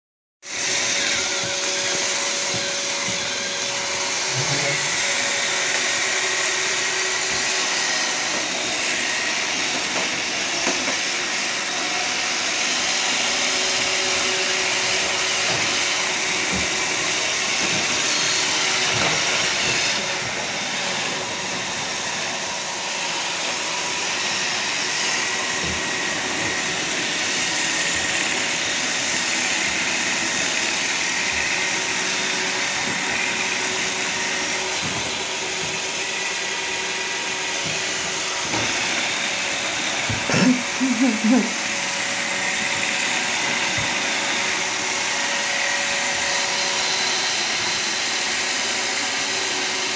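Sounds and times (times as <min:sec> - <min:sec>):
robot vacuum cleaner whirring: 0:00.4 - 0:49.9.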